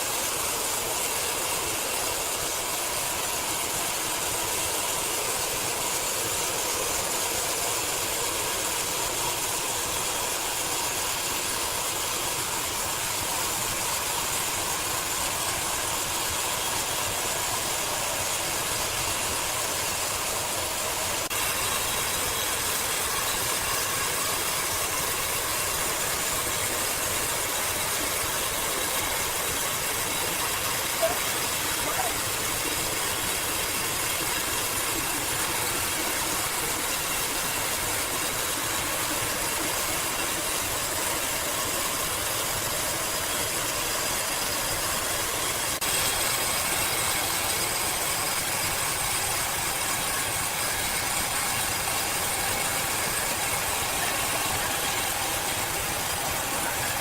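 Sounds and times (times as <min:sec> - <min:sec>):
sawmill machinery hissing: 0:00.0 - 0:57.0.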